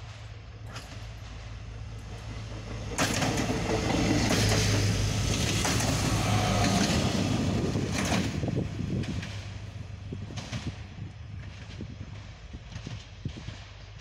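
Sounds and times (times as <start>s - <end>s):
railbus passing at speed: 0.0s - 14.0s.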